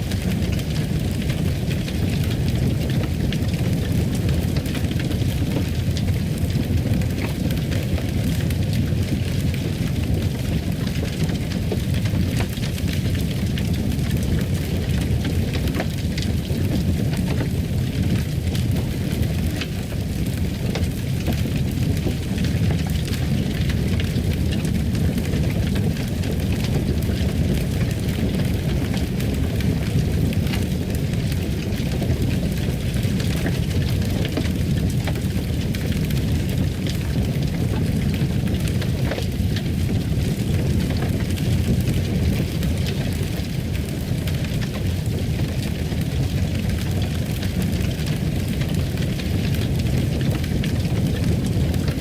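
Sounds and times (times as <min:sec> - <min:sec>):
fire crackling in a fireplace: 0:00.0 - 0:52.0.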